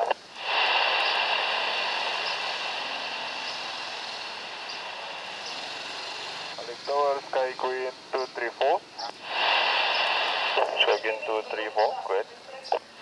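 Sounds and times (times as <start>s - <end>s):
turboprop engines with turbine whine: 0.0s - 13.0s.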